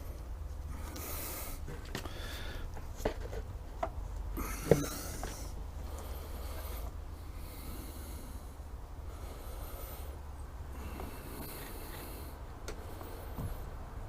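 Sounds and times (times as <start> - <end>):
low steady hum: 0.0 - 14.0
person breathing close to microphone: 0.7 - 2.8, 4.4 - 14.0.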